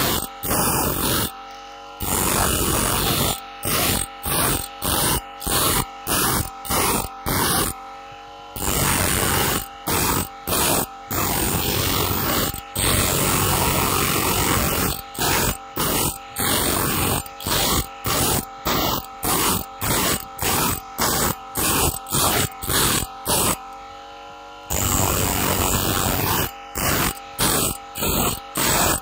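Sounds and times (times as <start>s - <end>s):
grinding wheel sharpening saw blade: 0.0s - 7.8s, 8.6s - 23.8s, 24.7s - 29.0s
motor whine: 0.0s - 29.0s.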